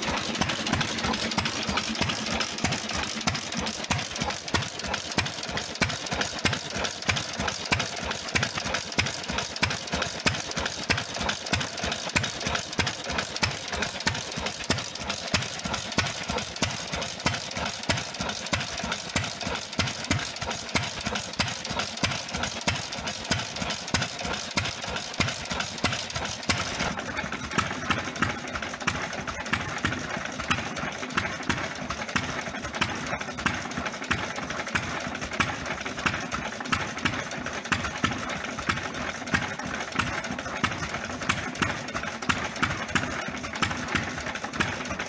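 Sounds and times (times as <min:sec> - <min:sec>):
stationary engine clattering: 0:00.0 - 0:45.0.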